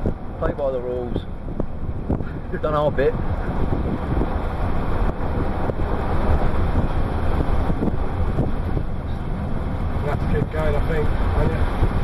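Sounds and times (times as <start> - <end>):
car road and engine noise: 0.0 - 12.0
wind on microphone: 0.0 - 12.0.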